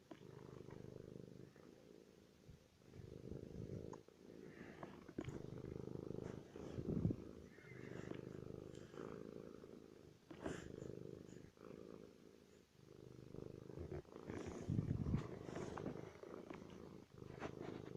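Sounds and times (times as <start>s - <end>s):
cat purring: 0.0s - 17.9s.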